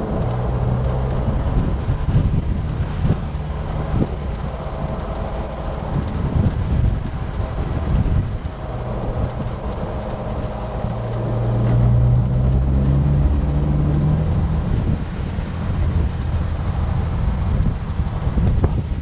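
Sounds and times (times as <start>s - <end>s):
off-road vehicle engine: 0.0s - 19.0s
tyres rumbling on dirt: 0.0s - 19.0s.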